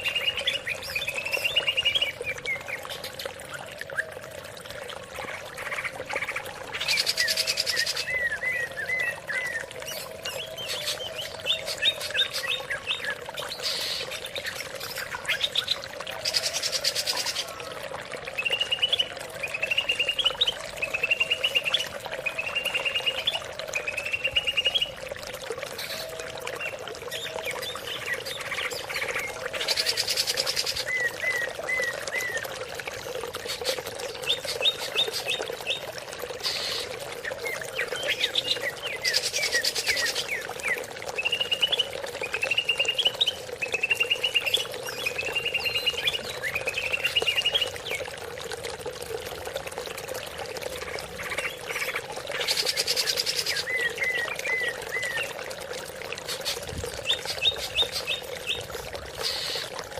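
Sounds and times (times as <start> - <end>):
bird singing chirp phrases: 0.0 - 4.2, 5.3 - 17.6, 18.4 - 25.0, 25.7 - 32.5, 33.4 - 48.0, 51.0 - 55.4.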